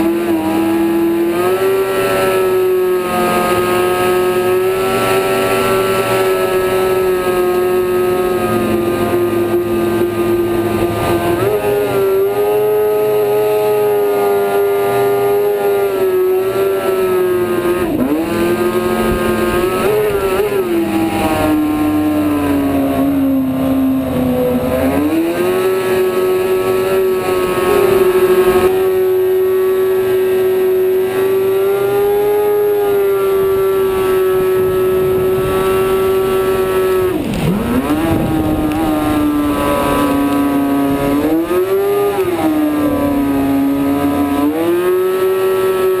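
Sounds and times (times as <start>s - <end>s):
motorcycle engine revving hard: 0.0s - 46.0s.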